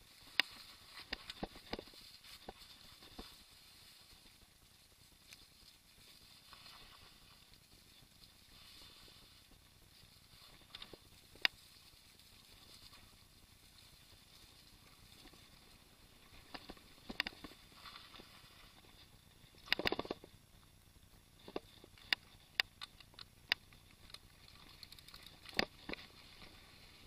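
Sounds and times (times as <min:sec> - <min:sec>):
bike tyres rolling on dirt: 0:00.0 - 0:22.0, 0:23.3 - 0:27.0.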